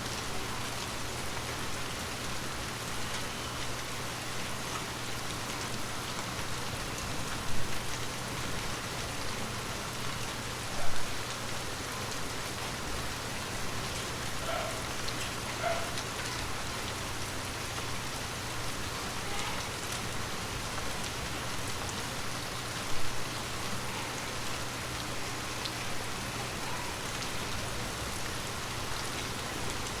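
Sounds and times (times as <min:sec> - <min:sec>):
light rain patter: 0:00.0 - 0:30.0.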